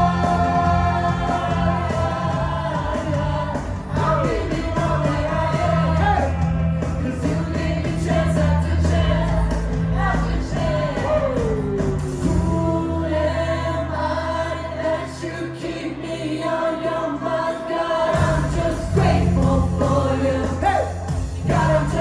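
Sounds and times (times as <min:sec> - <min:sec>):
bass: 0:00.0 - 0:22.0
keyboard: 0:00.0 - 0:22.0
people singing praise song: 0:00.0 - 0:22.0.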